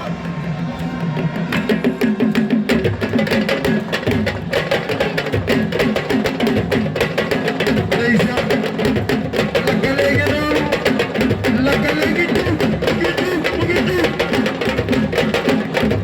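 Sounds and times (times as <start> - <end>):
fast drumming: 0.0 - 16.0.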